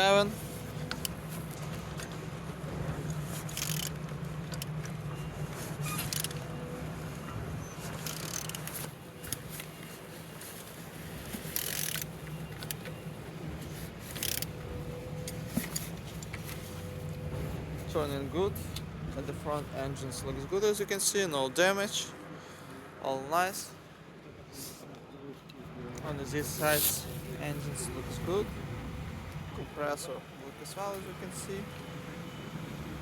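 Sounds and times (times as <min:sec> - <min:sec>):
engine turned with wrench scraping: 0:00.0 - 0:22.0, 0:24.7 - 0:33.0.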